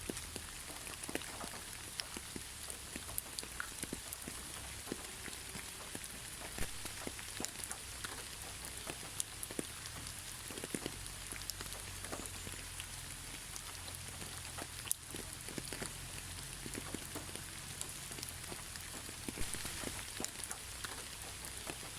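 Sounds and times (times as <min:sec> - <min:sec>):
gentle rain falling: 0:00.0 - 0:21.9
raindrops ticking: 0:00.0 - 0:21.9.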